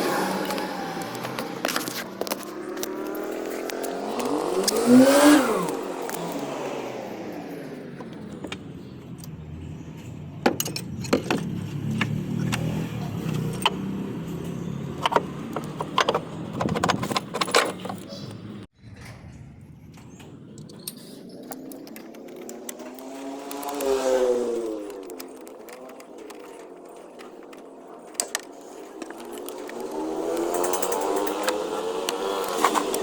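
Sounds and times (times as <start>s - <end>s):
car engine revving: 0.0s - 18.0s, 21.5s - 33.0s.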